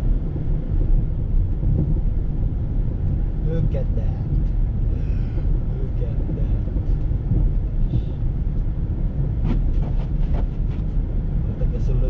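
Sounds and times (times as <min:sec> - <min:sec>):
car rumbling on snowy road: 0:00.0 - 0:12.0.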